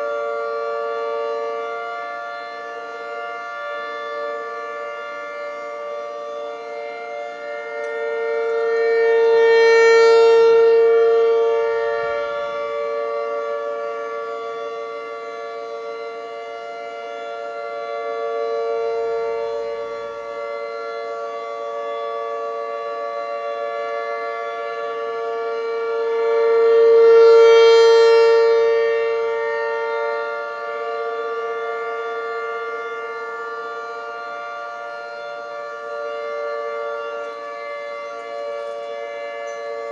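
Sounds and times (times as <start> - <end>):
rotating warning sirens: 0.0 - 39.9.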